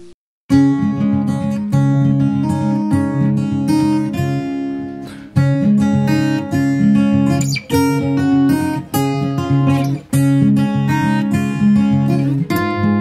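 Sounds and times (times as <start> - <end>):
acoustic guitar strumming chords: 0.5 - 13.0.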